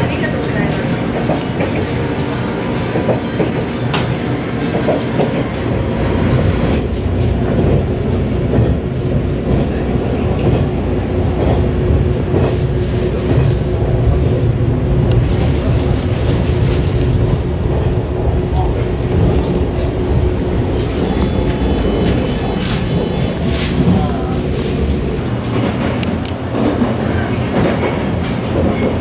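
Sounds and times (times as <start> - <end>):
train rumble inside car: 0.0 - 29.0.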